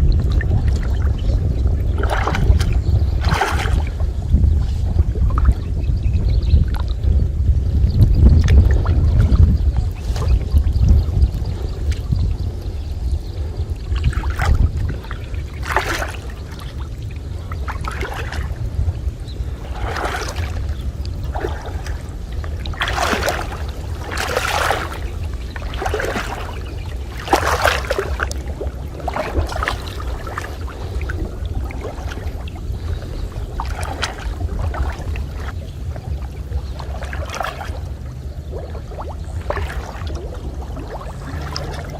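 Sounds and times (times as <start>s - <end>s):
steady low rumble: 0.0s - 41.9s
water splashing swishes: 0.0s - 41.9s.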